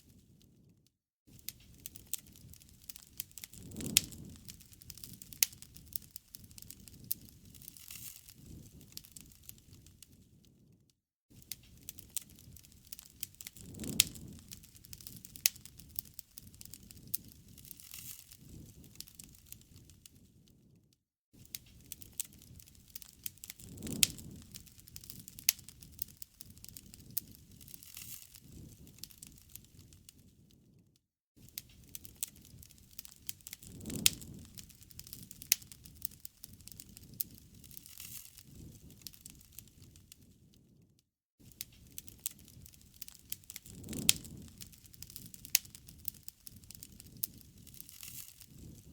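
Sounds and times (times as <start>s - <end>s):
low rumble of flames: 0.0s - 48.9s
loud pops from fire: 1.3s - 10.4s, 11.3s - 20.4s, 21.4s - 30.4s, 31.4s - 40.5s, 41.4s - 48.9s
wood fire crackling: 1.3s - 20.8s, 21.4s - 30.8s, 31.4s - 40.8s, 41.4s - 48.9s.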